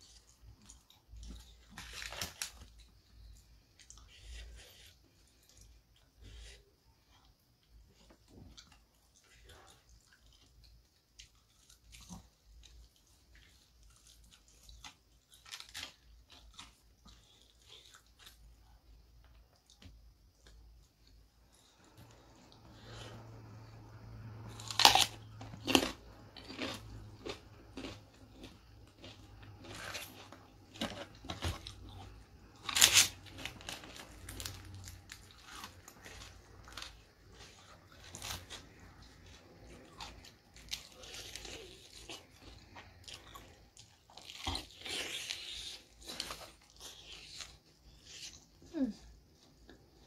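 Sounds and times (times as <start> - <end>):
crunchy food chewing: 0.0 - 50.0.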